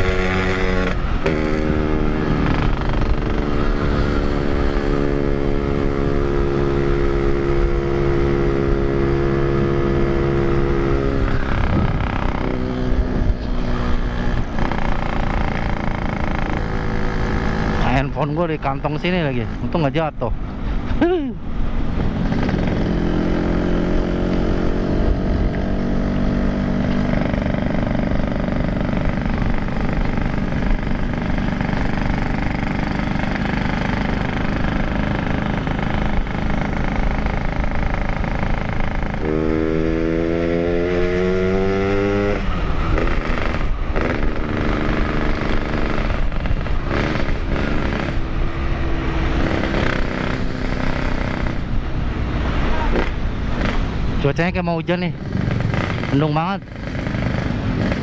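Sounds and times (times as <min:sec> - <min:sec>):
two-stroke motorcycle engine: 0:00.0 - 0:20.0, 0:22.1 - 0:51.9, 0:52.9 - 0:58.0.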